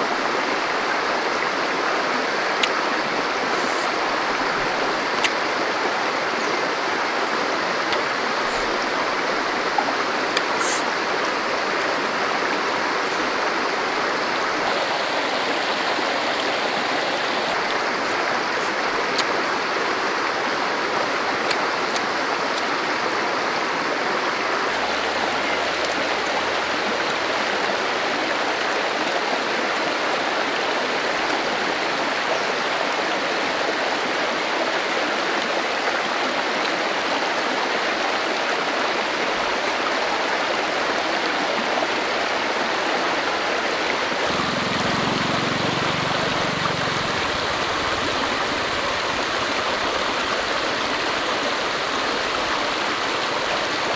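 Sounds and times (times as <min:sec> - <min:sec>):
stream running over rocks: 0:00.0 - 0:53.9.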